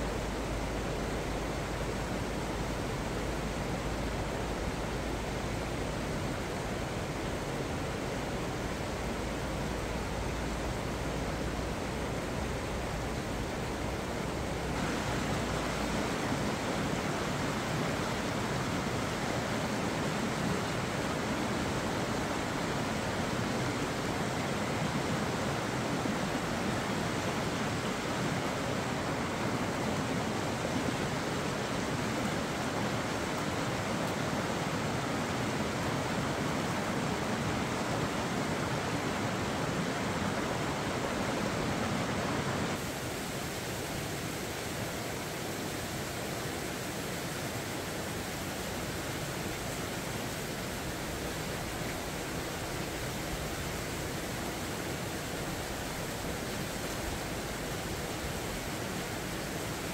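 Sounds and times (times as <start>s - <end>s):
stream rushing over rapids: 0.0s - 59.9s.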